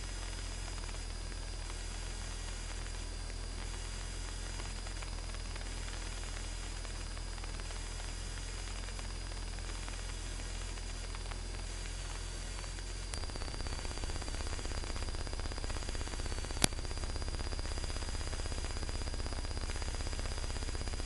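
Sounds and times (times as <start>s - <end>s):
intercom static hiss: 0.0s - 21.0s
low hum: 0.1s - 21.0s.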